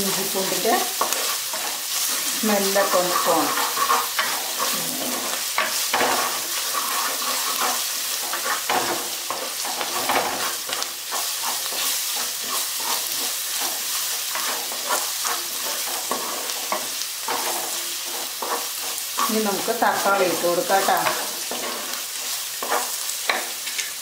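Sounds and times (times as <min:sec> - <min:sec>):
food sizzling in hot oil: 0:00.0 - 0:24.0
wooden spatula stirring and scraping: 0:00.0 - 0:24.0.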